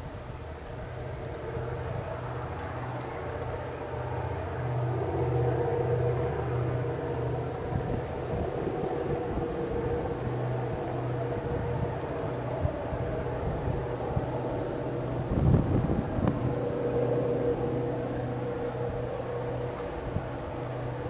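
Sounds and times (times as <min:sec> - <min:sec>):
diesel locomotive engine throb: 0:00.0 - 0:21.0
high drone: 0:00.0 - 0:21.0.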